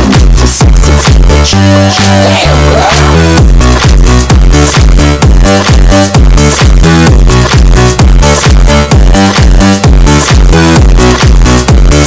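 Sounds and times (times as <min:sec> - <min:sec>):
kick drum beat: 0:00.0 - 0:01.4, 0:03.4 - 0:12.0
sustained bass line: 0:00.0 - 0:12.0.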